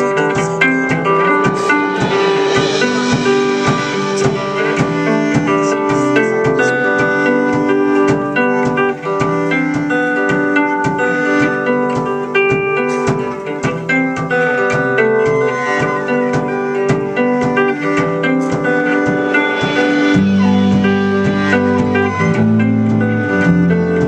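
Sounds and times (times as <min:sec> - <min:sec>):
cello: 0:00.0 - 0:24.0
electric guitar: 0:00.0 - 0:24.0
steady beat: 0:00.0 - 0:24.0.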